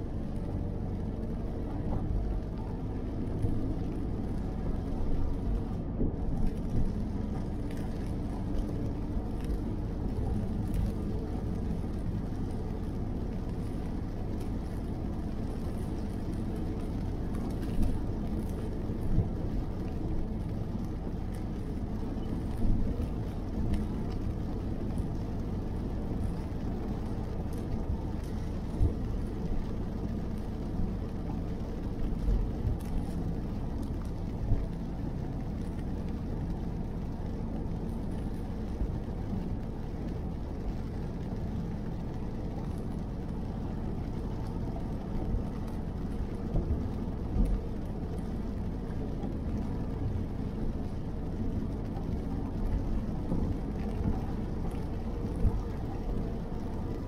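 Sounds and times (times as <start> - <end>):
rain tapping on windshield: 0.0 - 57.0
road and tyre rumble: 0.0 - 57.0.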